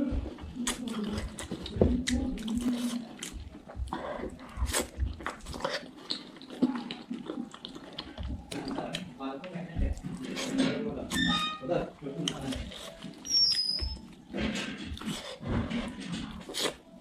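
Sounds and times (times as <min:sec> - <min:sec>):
close chewing and biting: 0:00.0 - 0:17.0.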